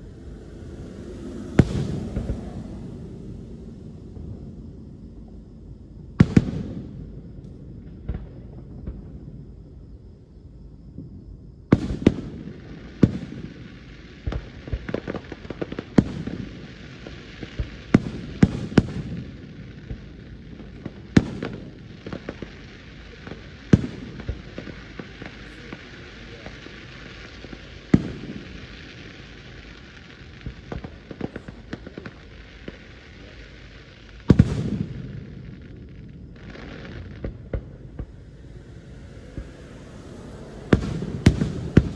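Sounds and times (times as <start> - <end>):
fireworks crackling: 0.0 - 10.3, 11.0 - 41.9
fireworks booming: 0.0 - 41.9.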